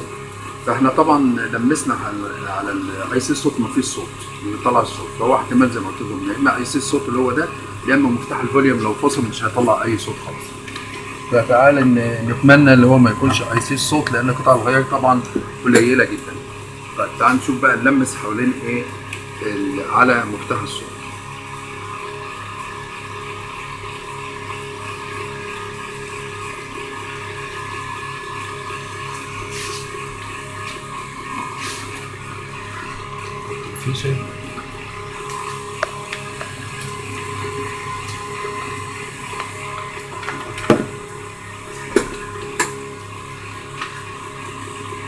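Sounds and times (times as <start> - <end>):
low pulsing: 0.0 - 45.0
speaker hum and hiss: 0.0 - 45.0.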